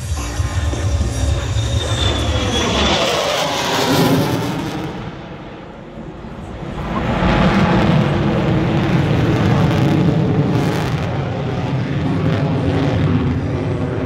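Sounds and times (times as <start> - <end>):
jet flying overhead: 0.0 - 14.0.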